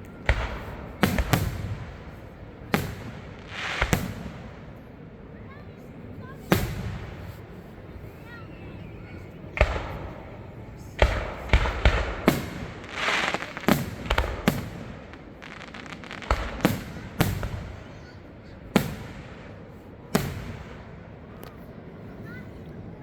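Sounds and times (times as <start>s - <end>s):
fireworks bangs echoing: 0.0s - 5.6s, 6.2s - 8.4s, 9.0s - 21.3s
fireworks crackling: 0.0s - 22.4s.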